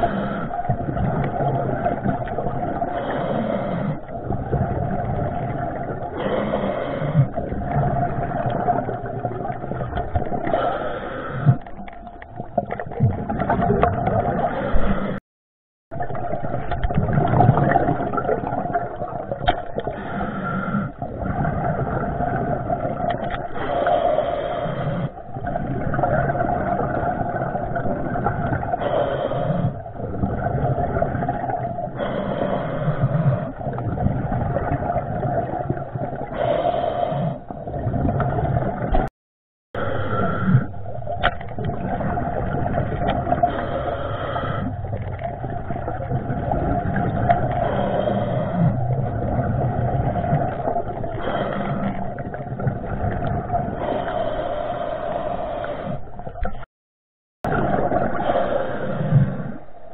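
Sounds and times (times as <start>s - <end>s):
muffled underwater rushing rumble: 0.0s - 10.6s, 11.4s - 15.2s, 15.9s - 24.6s, 25.2s - 39.1s, 39.8s - 56.6s, 57.4s - 59.9s.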